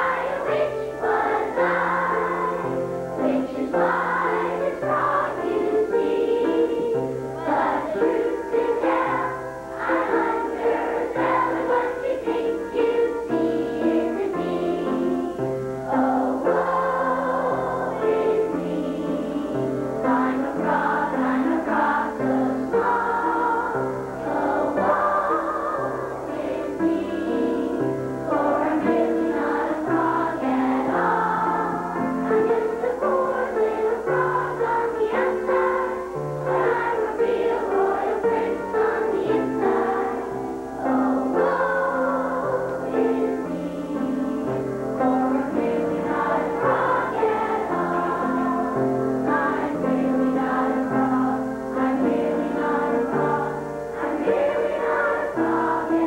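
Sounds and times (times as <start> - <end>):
children's chorus singing: 0.0 - 56.0.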